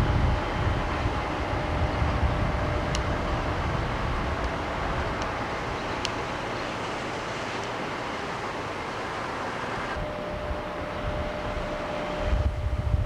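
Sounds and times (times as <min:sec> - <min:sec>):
train cars rumbling on rails: 0:00.0 - 0:13.0.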